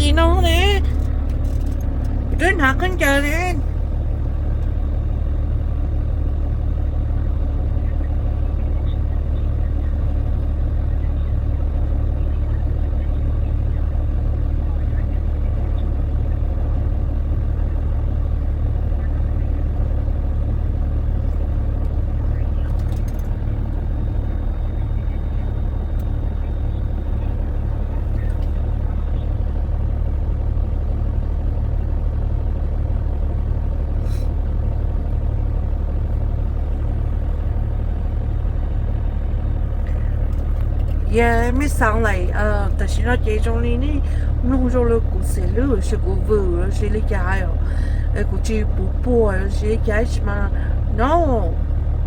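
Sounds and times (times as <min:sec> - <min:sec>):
truck engine droning: 0:00.0 - 0:52.0.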